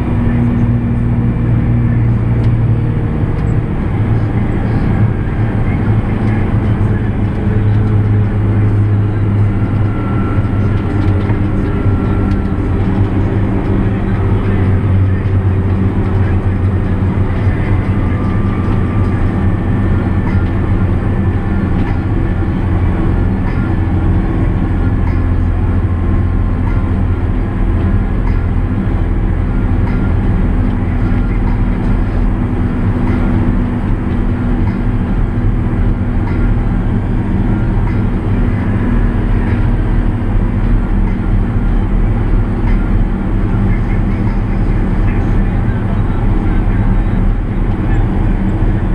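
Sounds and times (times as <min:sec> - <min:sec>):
diesel engine droning: 0:00.0 - 0:48.9
road and cab noise: 0:00.0 - 0:48.9.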